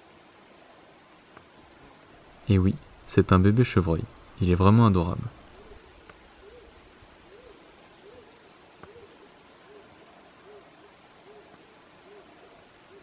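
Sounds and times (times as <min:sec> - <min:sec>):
quiet countryside background: 0:00.0 - 0:13.0.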